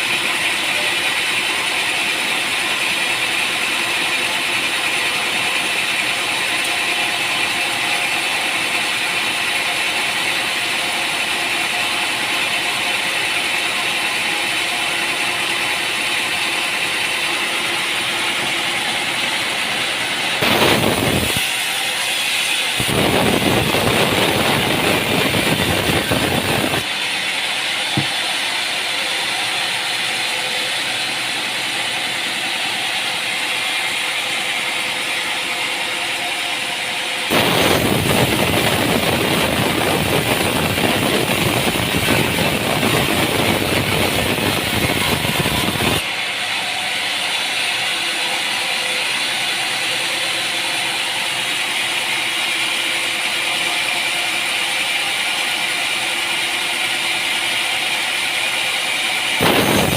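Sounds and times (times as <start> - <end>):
saw cutting through timber: 0.0 - 59.9
sawmill machinery running: 0.0 - 59.9.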